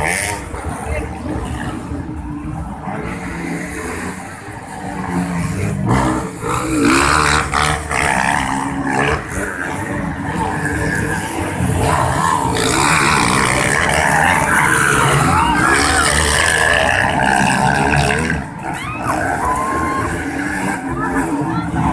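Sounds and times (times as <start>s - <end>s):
motocross bike engines racing: 0.0s - 21.9s.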